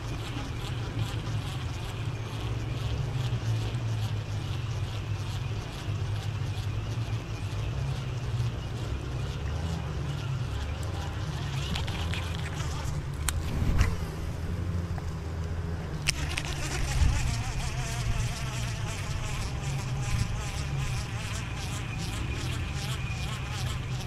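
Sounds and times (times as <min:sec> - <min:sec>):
insects buzzing: 0:00.0 - 0:24.0
low steady rumble: 0:00.0 - 0:24.0.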